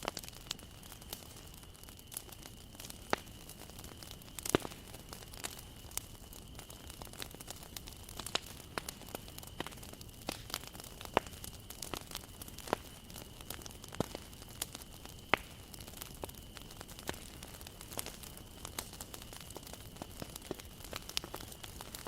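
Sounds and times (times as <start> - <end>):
bonfire crackling and popping: 0.0 - 22.0
faint steady hiss: 0.0 - 22.0.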